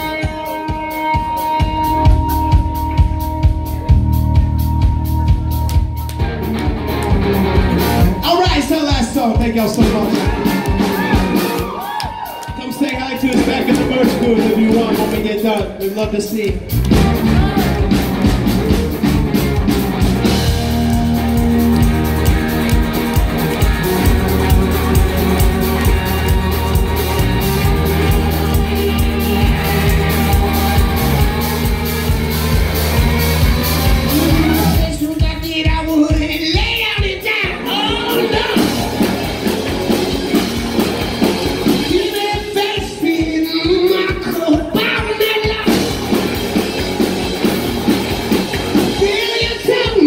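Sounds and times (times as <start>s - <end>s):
electric guitars: 0.0s - 35.2s, 37.2s - 43.0s, 44.2s - 50.0s
bass guitar: 0.0s - 50.0s
drum kit: 0.0s - 50.0s
rock band playing live: 0.0s - 50.0s.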